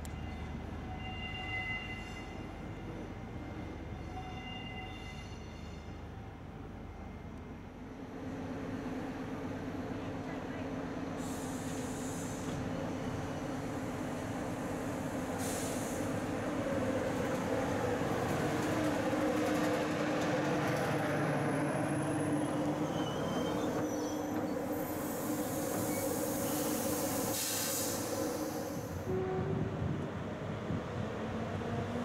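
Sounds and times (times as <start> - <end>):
train rumbling hum: 6.2 - 32.0.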